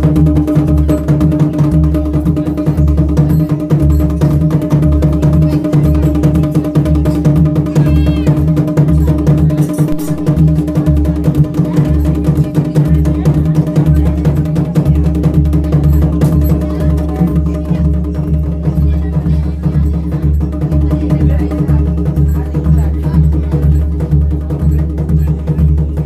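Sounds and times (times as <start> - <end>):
dhol drumming: 0.0 - 26.0.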